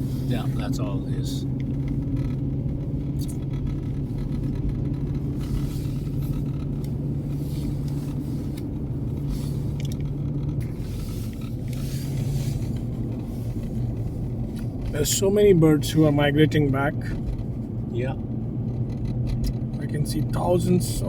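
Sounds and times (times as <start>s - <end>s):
engine and road drone in car: 0.0s - 21.0s.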